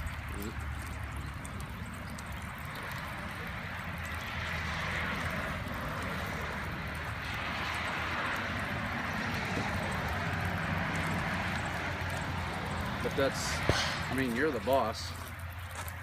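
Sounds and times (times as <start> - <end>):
engine running at low speed: 0.0 - 16.0.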